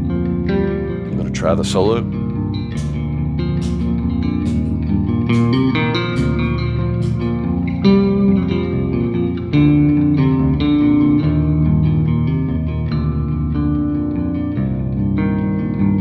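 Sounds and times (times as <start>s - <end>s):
picked electric bass melody: 0.0s - 16.0s.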